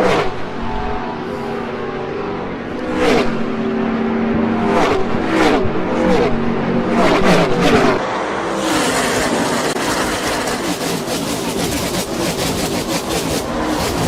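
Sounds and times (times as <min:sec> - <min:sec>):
race cars passing at full throttle: 0:00.0 - 0:14.0.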